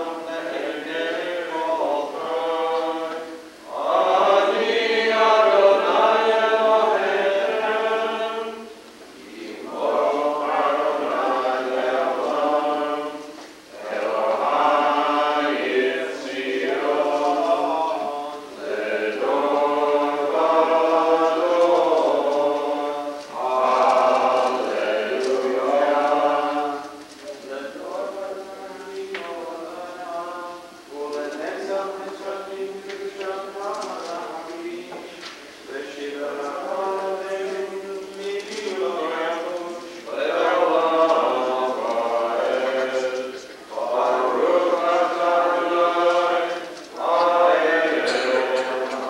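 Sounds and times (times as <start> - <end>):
congregation singing in unison: 0.0 - 49.0.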